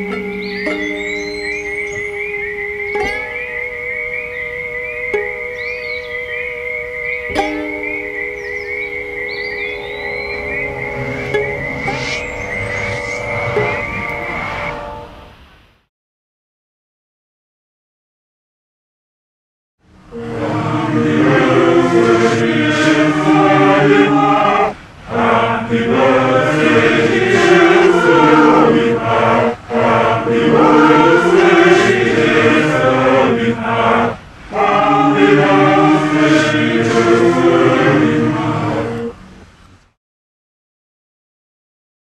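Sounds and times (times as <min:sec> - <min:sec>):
voices singing in chorus: 0:00.0 - 0:15.2, 0:20.1 - 0:39.3.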